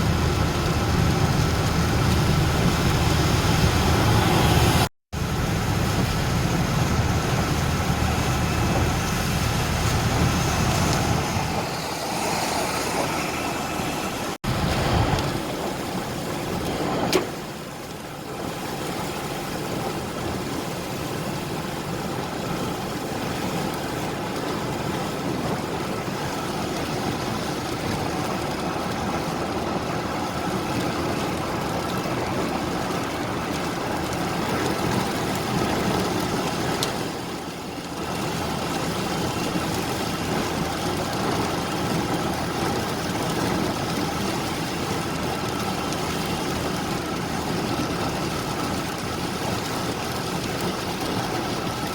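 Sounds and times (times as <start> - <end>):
vehicle engines running and idling: 0.0 - 51.9.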